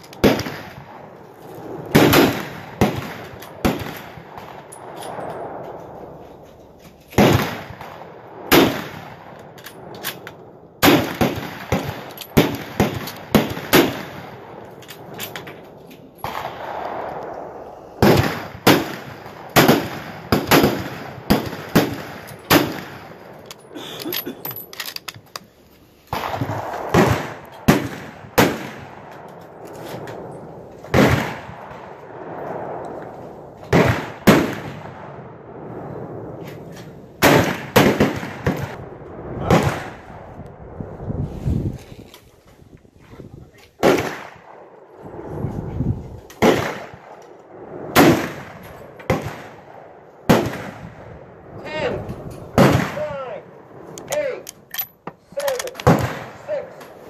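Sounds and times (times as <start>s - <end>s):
rifle shots with echo: 0.0s - 6.2s, 7.1s - 24.8s, 26.1s - 35.6s, 37.2s - 40.3s, 43.8s - 45.3s, 46.3s - 57.0s.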